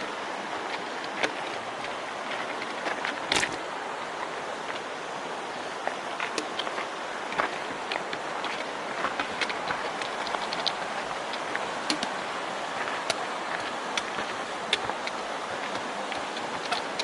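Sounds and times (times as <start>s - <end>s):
footsteps on rocky trail: 0.0s - 17.0s
steady rushing noise: 0.0s - 17.0s.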